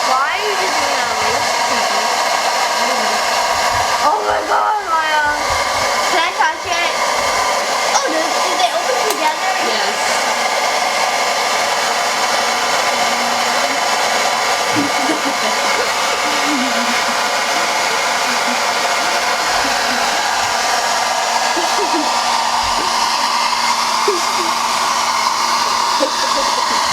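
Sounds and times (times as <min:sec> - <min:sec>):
hair dryer running: 0:00.0 - 0:26.9.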